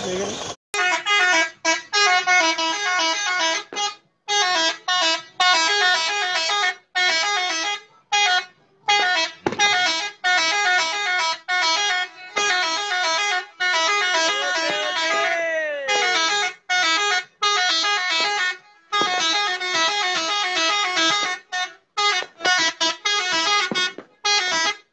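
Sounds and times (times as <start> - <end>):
truck horns playing multi-note tunes: 0.8 - 24.9.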